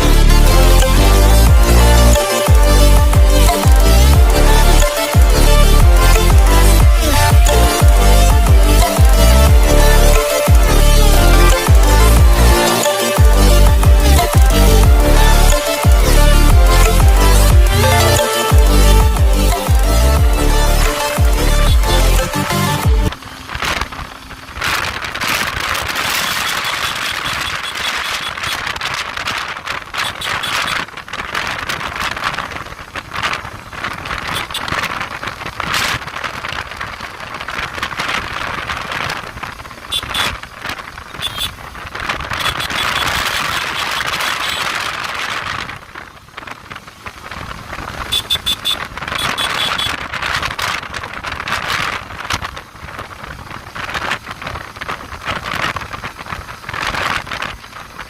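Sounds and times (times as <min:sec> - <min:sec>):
motorcycle engine: 0:00.0 - 0:58.0
wind rushing over microphone: 0:00.0 - 0:58.0.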